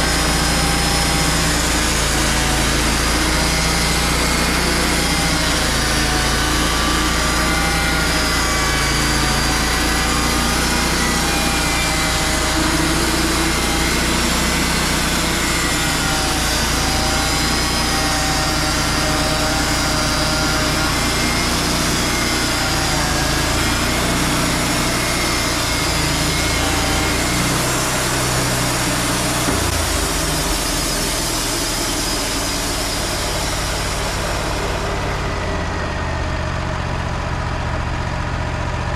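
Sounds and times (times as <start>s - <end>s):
band saw cutting a log: 0.0s - 38.9s
sawmill engine running: 0.0s - 38.9s.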